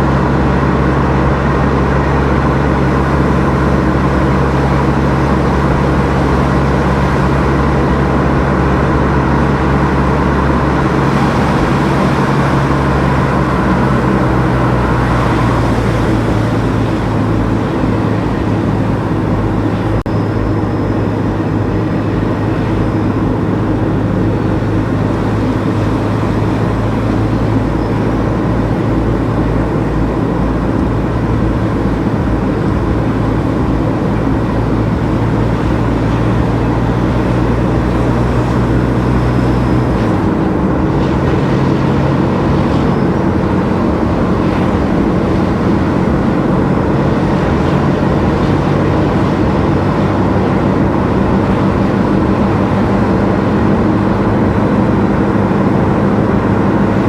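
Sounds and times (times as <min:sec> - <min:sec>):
car engine hum: 0:00.0 - 0:57.0
tyre road noise: 0:00.0 - 0:57.0.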